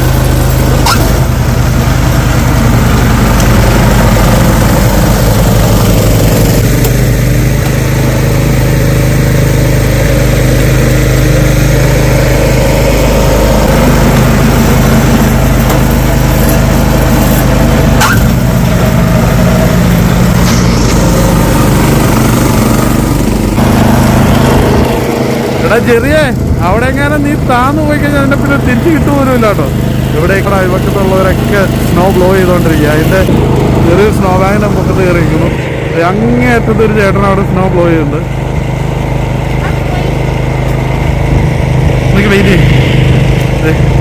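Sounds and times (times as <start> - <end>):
snow blower engine running: 0.0 - 44.0.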